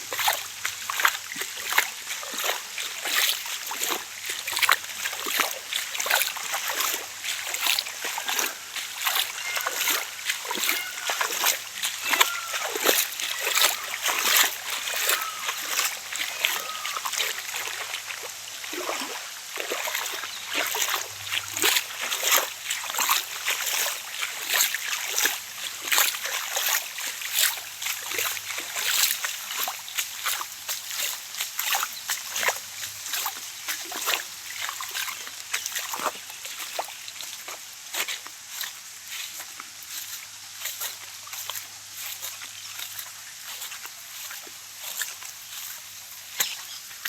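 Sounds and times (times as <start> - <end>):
rain pattering on surfaces: 0.0 - 47.0.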